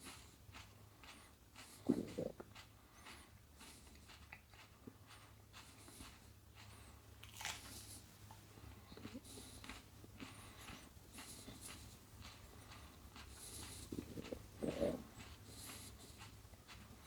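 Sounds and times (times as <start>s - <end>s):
man chewing: 0.0s - 17.0s.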